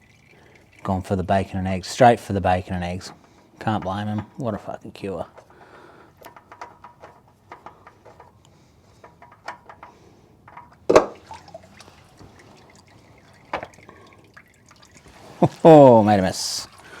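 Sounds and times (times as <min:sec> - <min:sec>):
oil dripping and splattering: 0:00.0 - 0:17.0.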